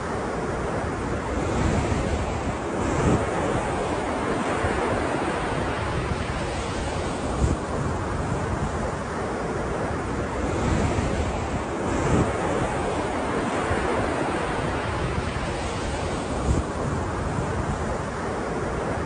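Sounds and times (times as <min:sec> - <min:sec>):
ocean surf waves: 0:00.0 - 0:19.0.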